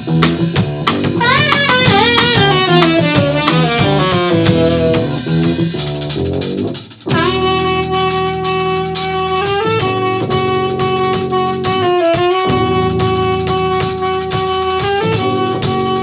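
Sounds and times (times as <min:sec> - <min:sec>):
double bass: 0:00.0 - 0:16.0
drum kit: 0:00.0 - 0:16.0
saxophone sliding bent notes: 0:01.1 - 0:05.8, 0:07.1 - 0:16.0.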